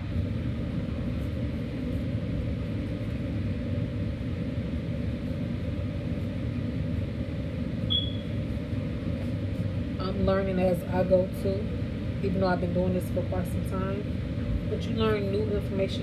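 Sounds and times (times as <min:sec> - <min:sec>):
air conditioner running: 0:00.0 - 0:16.0.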